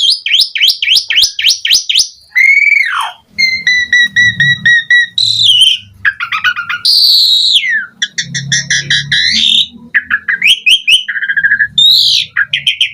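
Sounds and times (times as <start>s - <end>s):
starling singing whistles and chatter: 0.0s - 12.9s.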